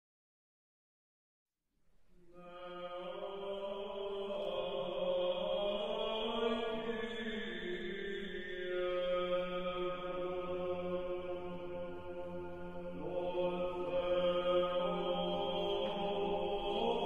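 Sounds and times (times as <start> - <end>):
slow chant-like singing: 2.2 - 17.0.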